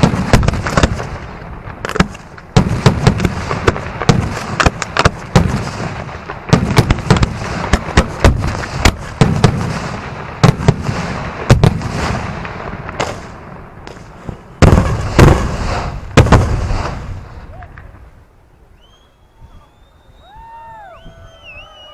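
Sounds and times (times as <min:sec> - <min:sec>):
fireworks bangs and crackling: 0:00.0 - 0:21.9.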